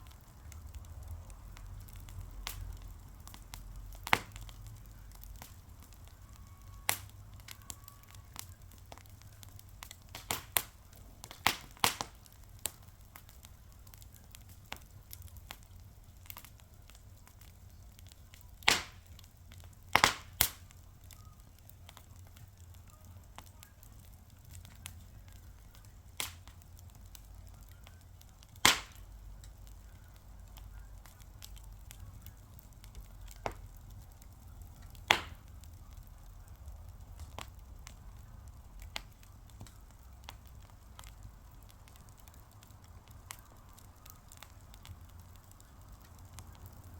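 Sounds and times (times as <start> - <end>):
sharp pops and snaps: 0.0 - 46.9
wood fire crackling: 0.0 - 46.9.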